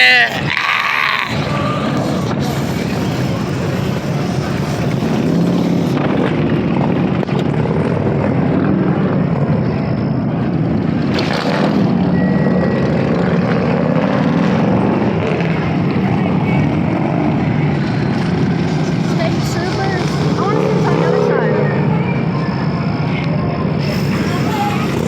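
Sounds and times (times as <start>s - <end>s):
motorcycle engines rumbling: 0.0s - 25.0s.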